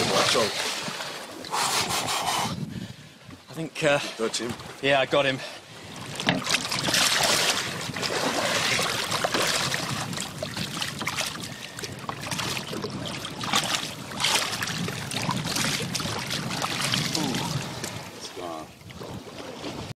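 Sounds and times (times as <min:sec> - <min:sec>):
water splashing against boat hull: 0:00.0 - 0:02.6, 0:05.8 - 0:19.9.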